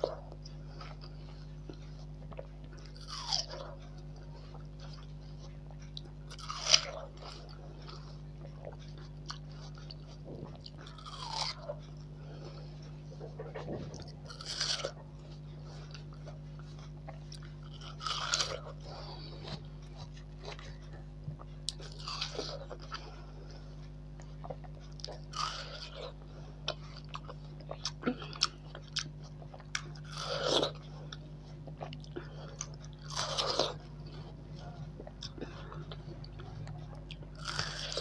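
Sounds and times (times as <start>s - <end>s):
crunchy watermelon bites: 0.0s - 5.1s, 5.9s - 12.0s, 13.4s - 20.8s, 21.7s - 23.0s, 24.2s - 38.0s
chewing: 0.0s - 38.0s.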